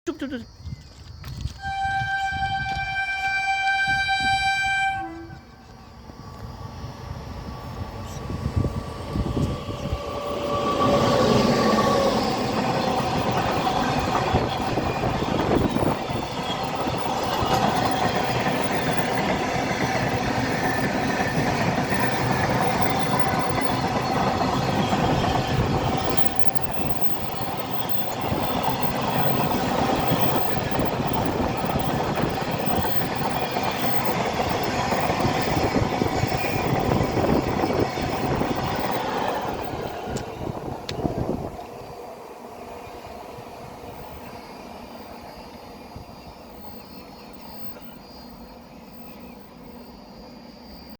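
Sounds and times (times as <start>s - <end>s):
goods train rumbling past: 1.5s - 50.9s.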